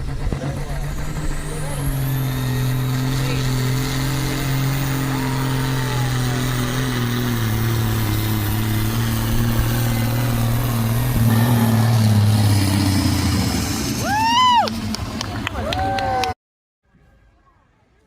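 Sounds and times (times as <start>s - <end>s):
loud vehicle engine running: 0.0s - 16.4s.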